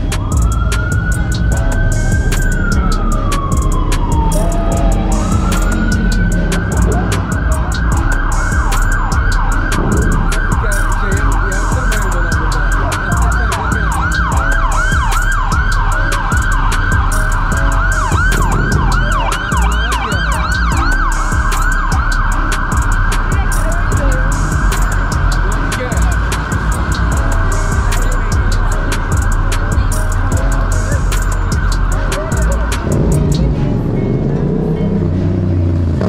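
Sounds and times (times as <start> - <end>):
emergency siren yelping: 0.0 - 36.0
traffic noise: 0.0 - 36.0.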